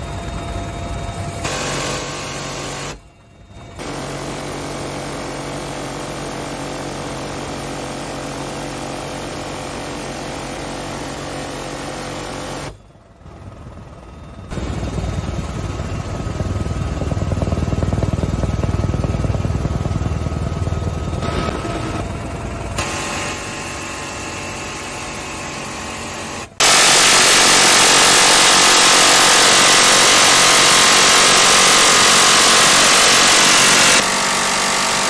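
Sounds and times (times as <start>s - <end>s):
helicopter engine and rotor: 0.0s - 35.0s
minigun firing bursts: 1.4s - 3.0s, 3.8s - 12.8s, 14.5s - 35.0s.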